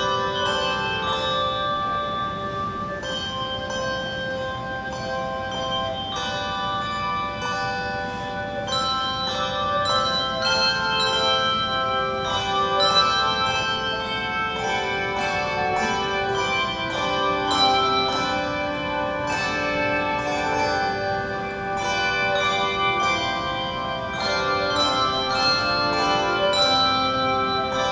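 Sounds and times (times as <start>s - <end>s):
handbell choir playing: 0.0s - 27.9s.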